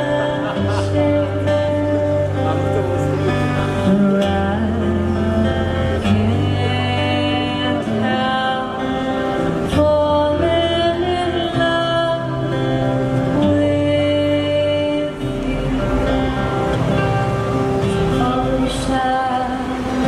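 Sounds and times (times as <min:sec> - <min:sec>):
acoustic guitar: 0:00.0 - 0:20.0
woman singing into a microphone: 0:00.0 - 0:20.0.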